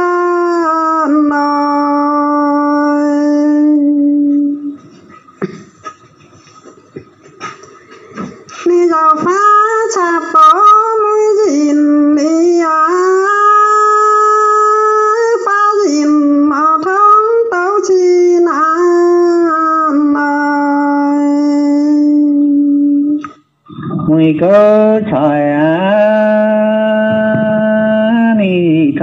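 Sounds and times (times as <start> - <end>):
person singing folk song: 0.0 - 6.0, 7.3 - 29.0.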